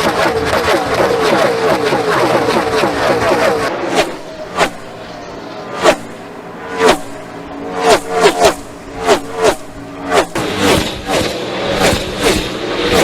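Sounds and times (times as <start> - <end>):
race cars passing by: 0.0 - 13.0.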